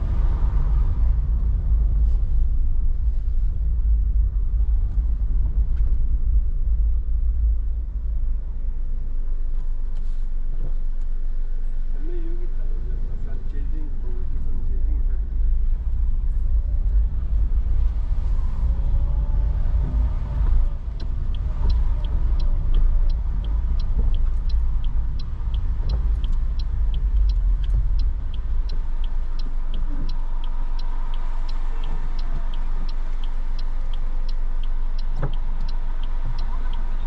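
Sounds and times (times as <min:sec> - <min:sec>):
car engine and road rumble: 0:00.0 - 0:37.0
turn signal ticking: 0:00.0 - 0:37.0.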